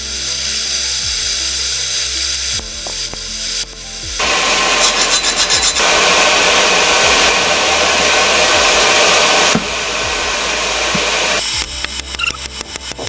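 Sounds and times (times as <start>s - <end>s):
power tool rasping on metal: 0.0s - 13.0s.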